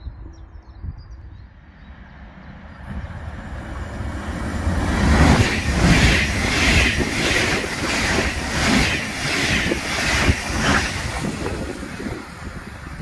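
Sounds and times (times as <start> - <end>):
electric train passing close: 1.6 - 13.0.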